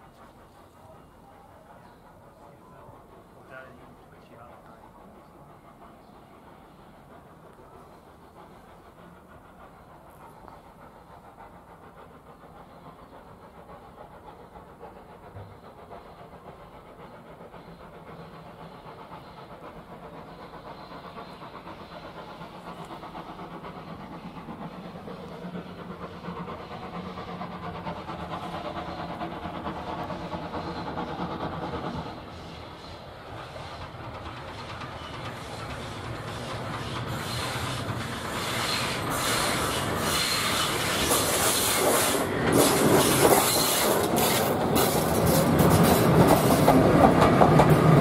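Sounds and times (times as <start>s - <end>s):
steam locomotive exhaust beats: 0.0s - 48.0s.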